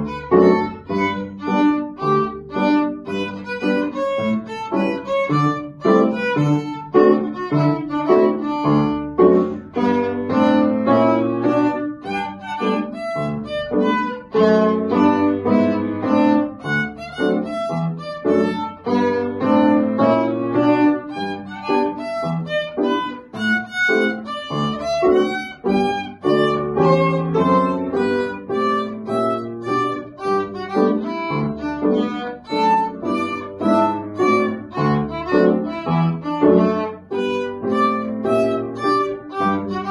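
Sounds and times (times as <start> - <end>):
piano chords: 0.0 - 39.9
violin playing quick bowed notes: 0.0 - 39.9.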